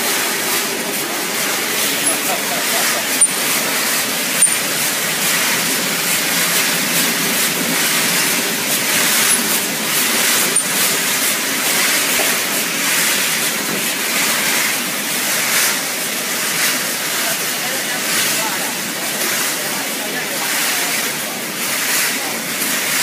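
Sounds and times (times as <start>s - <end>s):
hissing machinery: 0.0s - 23.0s.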